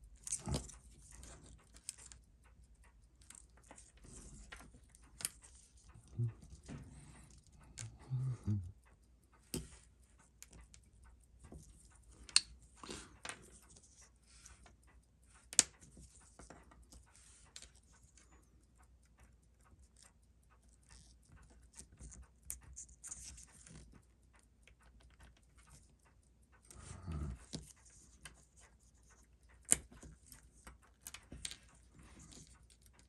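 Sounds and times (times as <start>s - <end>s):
small clicks and taps of tools: 0.0s - 33.0s.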